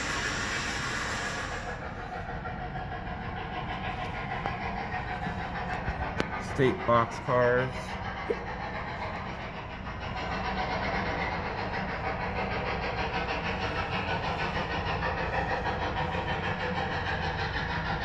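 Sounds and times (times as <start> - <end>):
machine running with flutter: 0.0 - 18.0.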